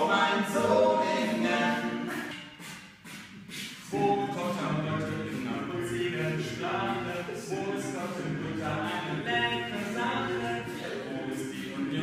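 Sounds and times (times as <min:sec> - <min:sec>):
a cappella group singing harmony: 0:00.0 - 0:02.7, 0:03.5 - 0:12.0.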